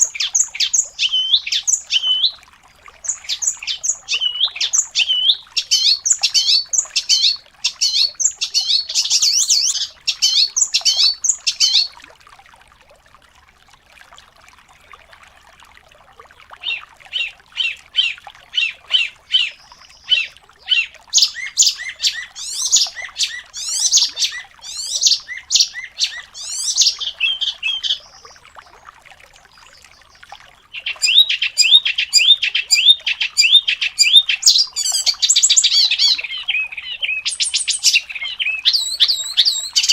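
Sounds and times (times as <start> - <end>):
songbird chirps and trills: 0.0 - 12.0, 16.6 - 39.9.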